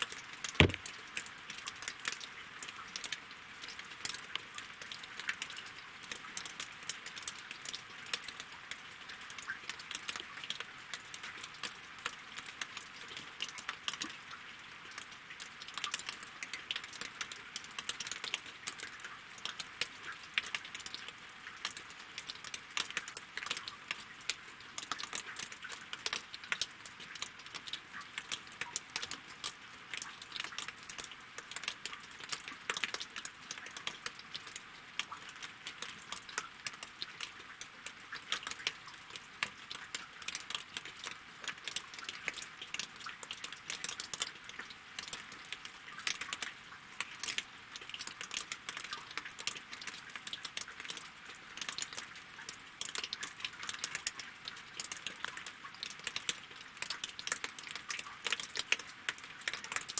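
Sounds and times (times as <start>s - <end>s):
rain falling on water and logs: 0.0s - 59.9s.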